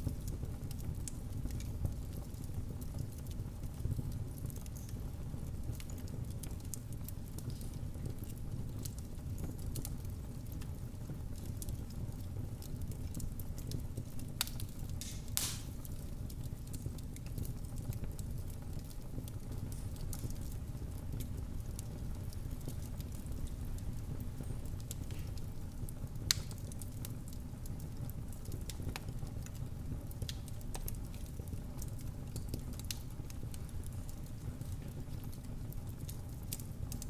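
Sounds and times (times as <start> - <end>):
loud fire snaps: 0.0 - 37.0
wood fire crackling in fireplace: 0.0 - 37.0.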